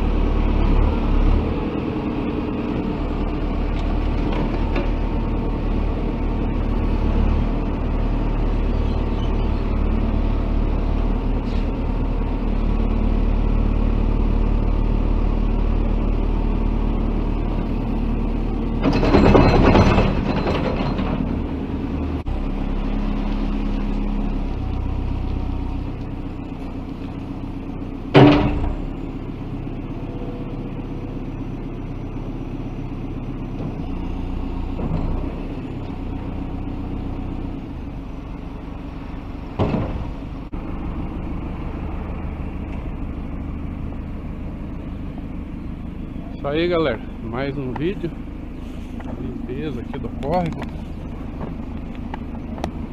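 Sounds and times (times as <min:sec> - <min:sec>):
diesel earth-moving machinery running: 0:00.0 - 0:52.9.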